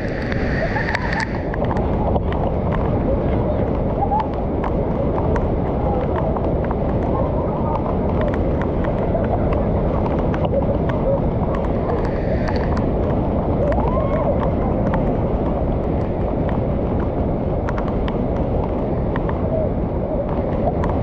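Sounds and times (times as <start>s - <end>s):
floodwater rushing over weir: 0.0s - 21.0s.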